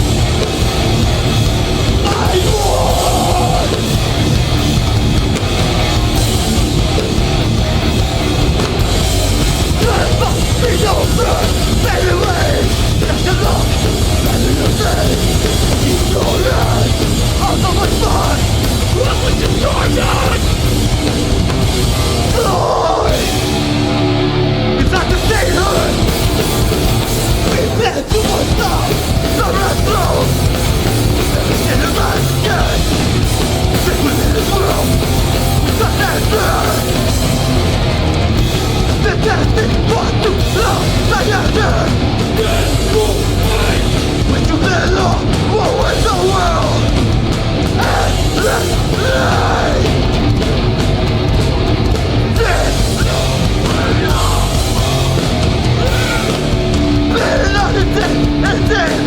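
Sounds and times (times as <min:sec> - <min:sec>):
hardcore band playing live: 0:00.0 - 0:59.0.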